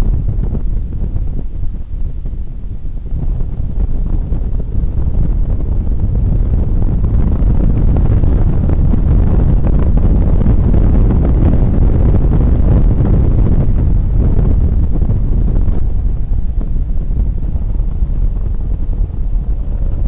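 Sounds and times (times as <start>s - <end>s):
car engine rumble inside cabin: 0.0s - 20.0s
road and wind noise: 0.0s - 20.0s.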